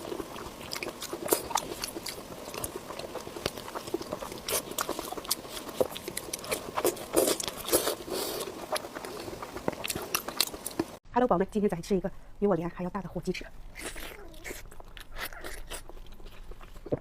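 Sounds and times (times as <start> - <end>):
person chewing food: 0.0 - 11.0, 13.7 - 17.0.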